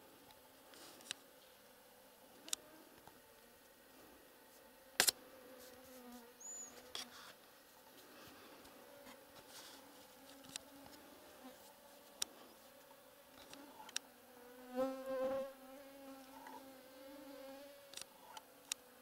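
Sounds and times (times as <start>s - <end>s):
buzzing of flying insects: 0.0s - 19.0s.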